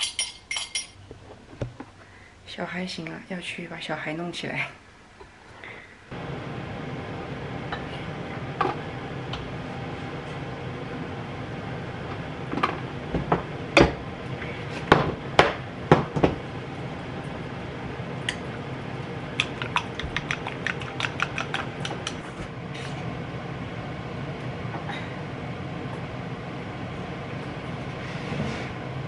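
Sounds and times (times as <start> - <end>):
steady low hum: 0.1 - 29.0.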